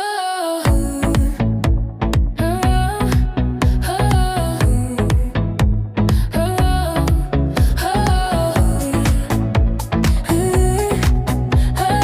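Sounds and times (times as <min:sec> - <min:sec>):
electronic dance-pop music: 0:00.0 - 0:12.0.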